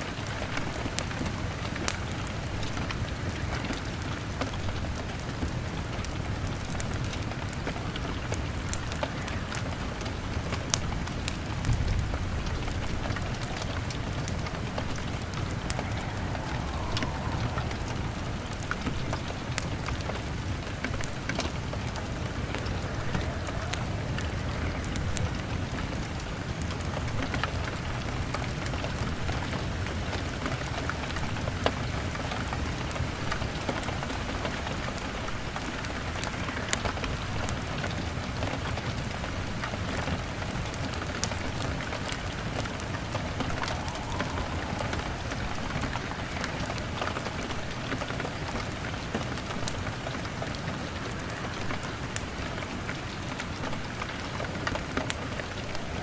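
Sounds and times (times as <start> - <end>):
rain pattering on a window: 0.0 - 56.0
wood fire crackling and popping: 0.0 - 56.0.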